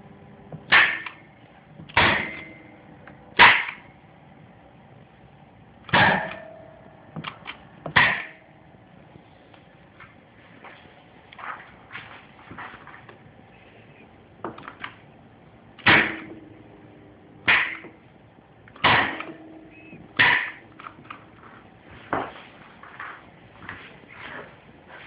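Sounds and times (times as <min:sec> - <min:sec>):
contactor hum: 0:00.0 - 0:25.0.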